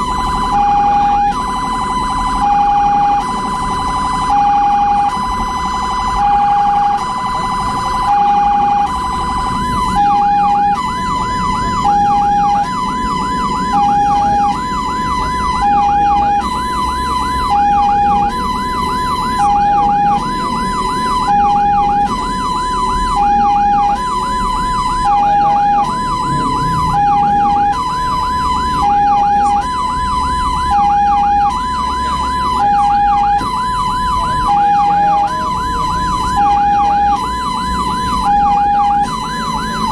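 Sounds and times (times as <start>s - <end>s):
engine and road rumble: 0.0s - 39.9s
siren yelp: 0.0s - 39.9s
two-tone siren: 0.0s - 39.9s.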